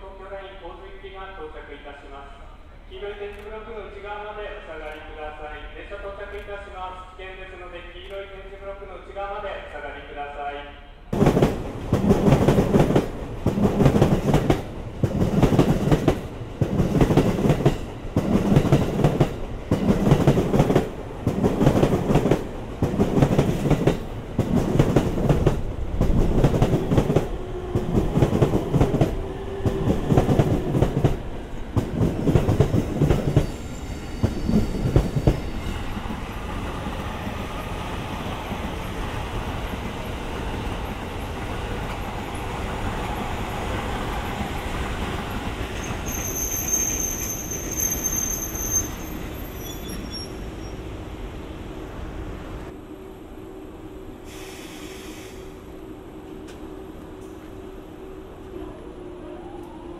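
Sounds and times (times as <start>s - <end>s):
steady train rumble: 0.0s - 59.9s.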